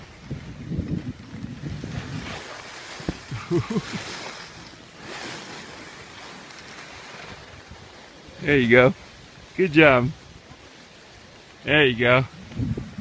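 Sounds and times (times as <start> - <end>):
wind rumbling on microphone: 0.0 - 6.3, 7.0 - 13.0
skis scraping over snow: 0.0 - 13.0.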